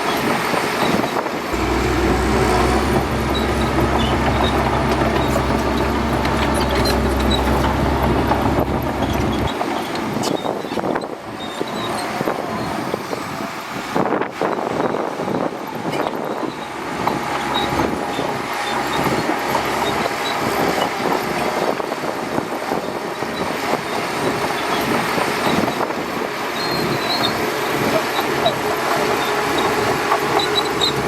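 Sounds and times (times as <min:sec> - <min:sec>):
bulldozer engine running: 0:00.0 - 0:31.0
steel tracks clanking: 0:00.1 - 0:31.0.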